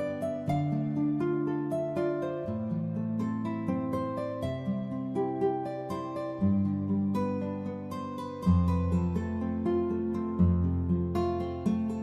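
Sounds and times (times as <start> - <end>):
plucked string music with bass: 0.0 - 12.0.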